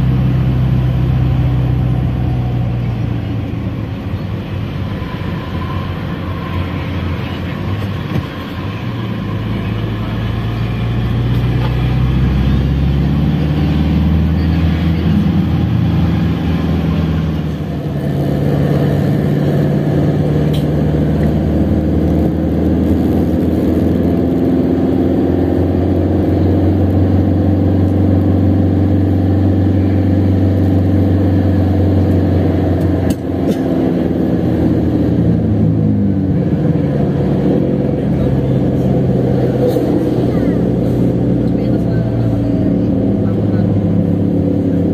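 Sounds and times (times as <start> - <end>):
road noise: 0.0 - 44.9
van engine while driving: 0.0 - 44.9.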